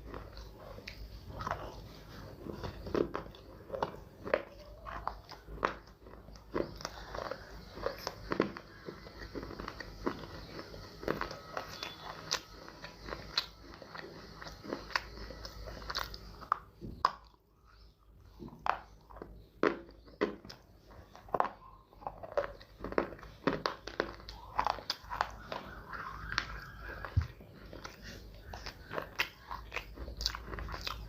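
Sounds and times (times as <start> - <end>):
crunchy food being chewed: 0.0 - 31.0.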